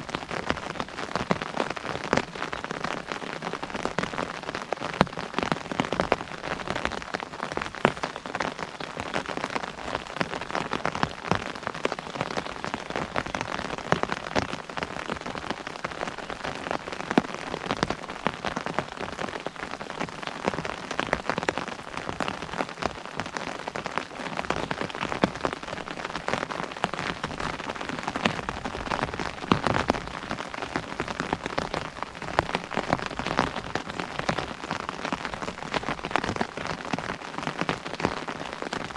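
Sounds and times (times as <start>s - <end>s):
rain pattering on an umbrella: 0.0s - 38.9s.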